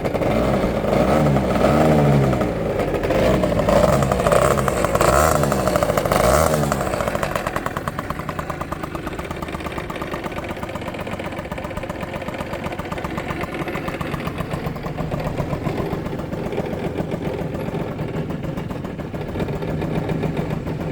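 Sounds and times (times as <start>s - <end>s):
engine revving and idling: 0.0s - 20.9s.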